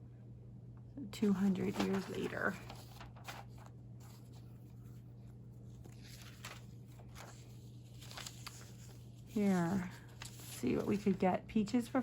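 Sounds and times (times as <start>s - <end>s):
low electrical hum: 0.0s - 12.0s
paper rustling: 1.2s - 12.0s.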